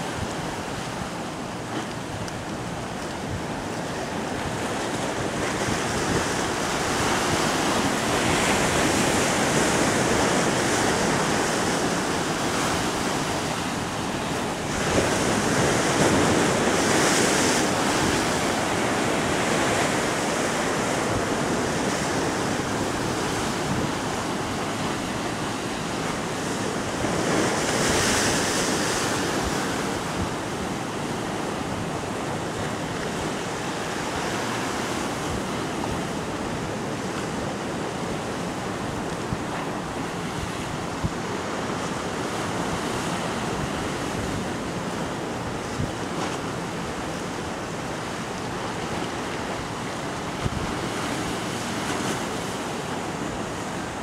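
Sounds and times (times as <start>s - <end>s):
surf washing on rocks: 0.0s - 54.0s
waves crashing: 0.0s - 54.0s.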